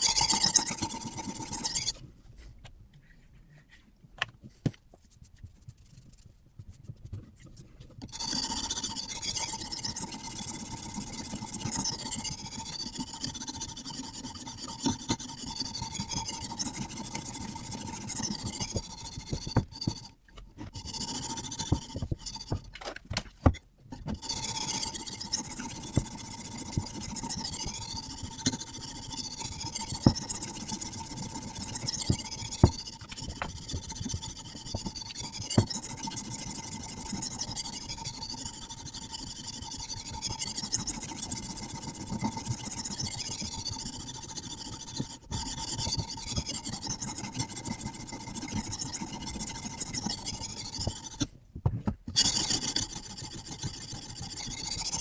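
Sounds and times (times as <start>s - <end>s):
sharpening stone rasping on knife: 0.0s - 2.0s, 8.1s - 22.7s, 23.5s - 51.3s, 52.2s - 55.0s.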